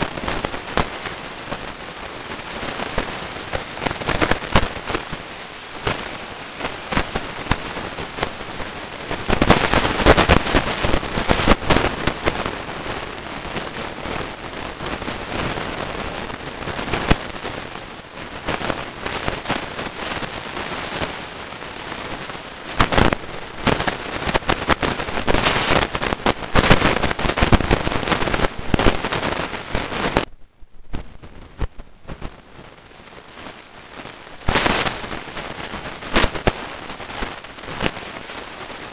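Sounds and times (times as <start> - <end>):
rain and wind on microphone: 0.0 - 38.9.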